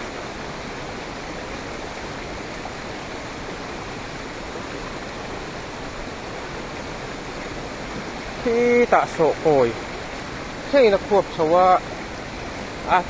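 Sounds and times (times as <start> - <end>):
rushing river in flood: 0.0 - 13.0.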